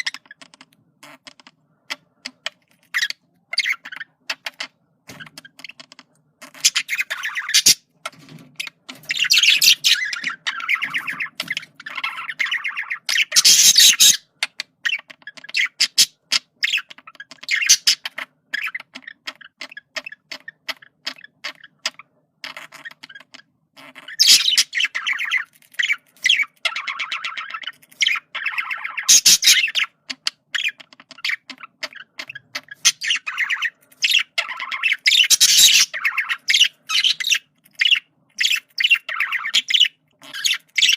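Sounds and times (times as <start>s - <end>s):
budgerigar chattering and warbling: 0.0s - 7.9s, 8.6s - 40.9s.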